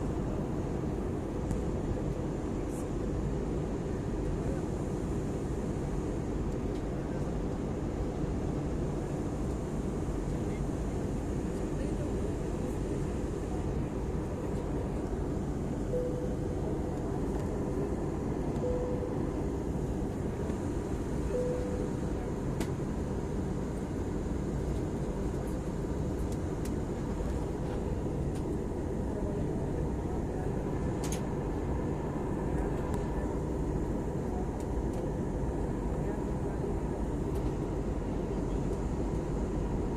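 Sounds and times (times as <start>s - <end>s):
airliner engines and rushing air: 0.0s - 39.9s.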